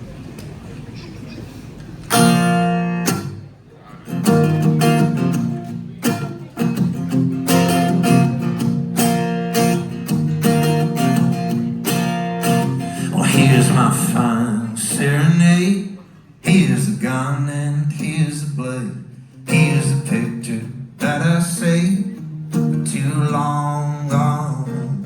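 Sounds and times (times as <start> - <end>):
amplified acoustic guitar strumming: 2.1 - 25.0.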